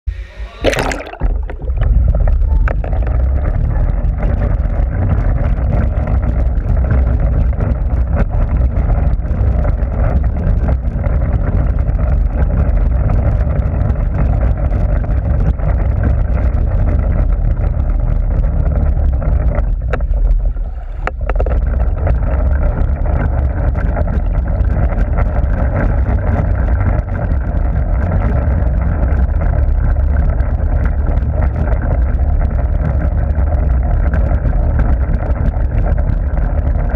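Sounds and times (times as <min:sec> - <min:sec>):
muffled underwater rumble: 0:00.1 - 0:36.9.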